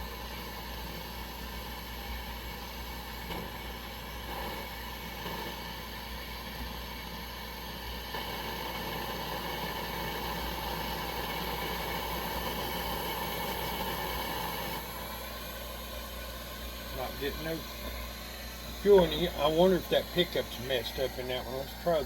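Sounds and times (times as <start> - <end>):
stove burner hissing: 0.0 - 22.0.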